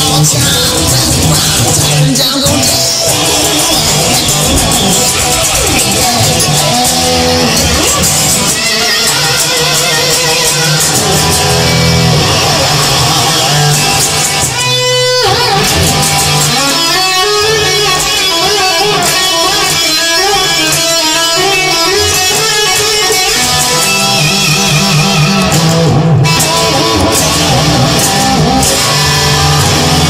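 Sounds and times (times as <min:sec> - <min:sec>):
rock song with electric guitar: 0:00.0 - 0:30.0.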